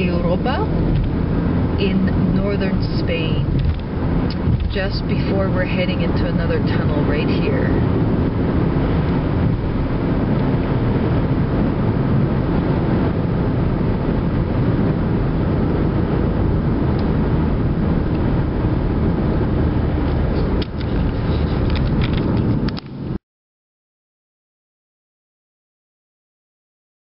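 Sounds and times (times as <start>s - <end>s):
car engine and tyre rumble: 0.0s - 23.2s.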